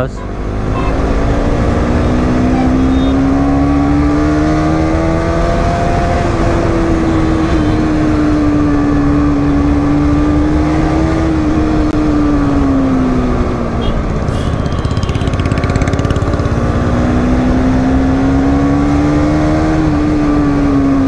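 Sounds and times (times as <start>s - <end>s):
motorcycle engine running: 0.0s - 18.3s
road and wind noise: 0.0s - 21.0s.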